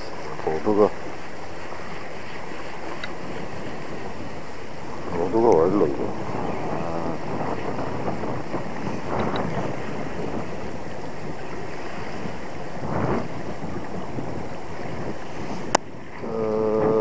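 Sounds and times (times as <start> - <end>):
sea water washing against rocks: 0.0 - 17.0
wind noise on microphone: 0.0 - 17.0.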